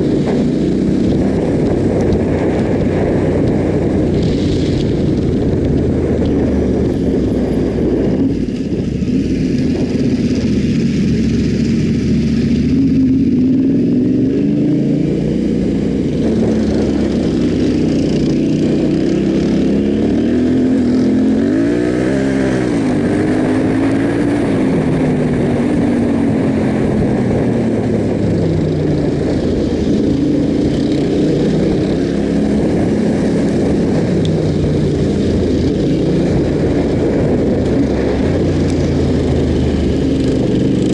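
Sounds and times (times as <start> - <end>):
motorcycle engine revving: 0.0 - 40.9
steady rushing noise: 0.0 - 40.9.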